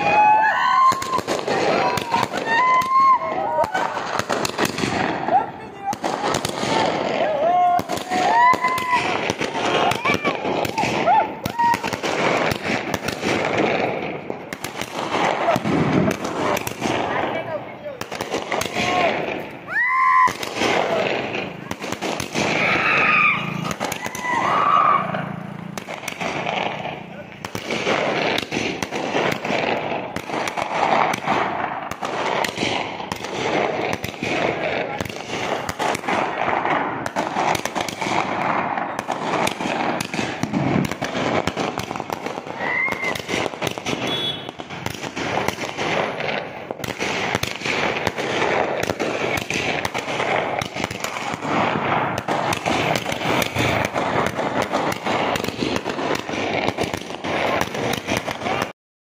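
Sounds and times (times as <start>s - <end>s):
fireworks rapid bangs and crackling: 0.0s - 58.8s.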